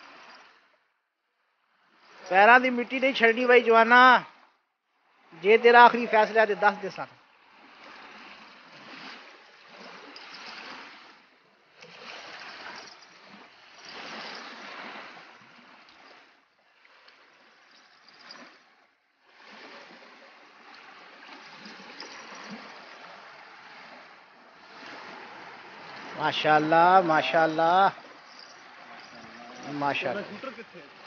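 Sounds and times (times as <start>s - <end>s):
water lapping at shoreline: 0.0s - 31.0s.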